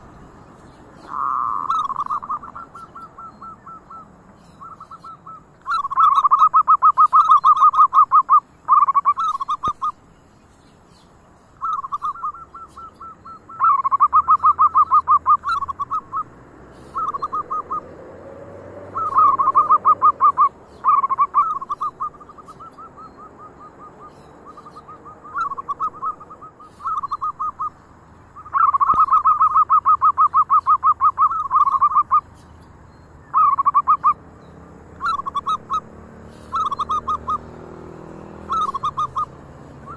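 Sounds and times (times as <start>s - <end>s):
dove cooing in trilling bouts: 0.0s - 10.2s, 11.6s - 32.4s, 33.2s - 39.9s.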